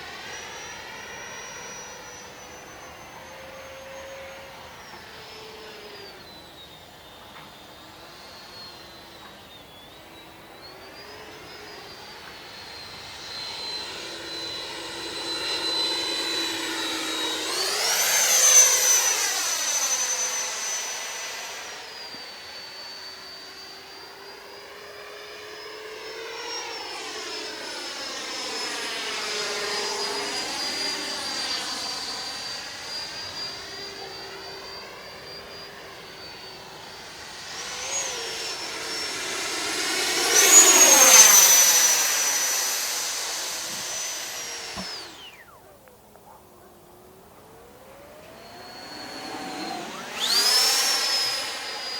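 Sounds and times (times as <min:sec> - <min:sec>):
electric jet fan whining: 0:00.0 - 0:51.9.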